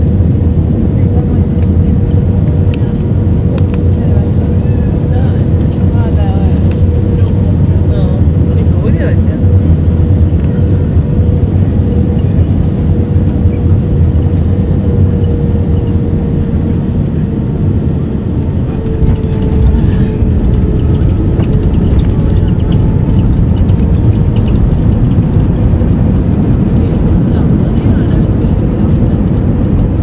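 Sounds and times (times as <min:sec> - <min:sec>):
jet engine rumble: 0:00.0 - 0:30.0.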